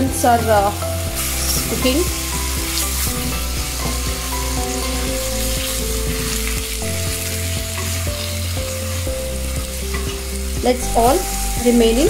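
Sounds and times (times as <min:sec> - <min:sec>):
chicken and onion sizzling in oil: 0:00.0 - 0:12.0
wooden spatula stirring: 0:00.4 - 0:12.0.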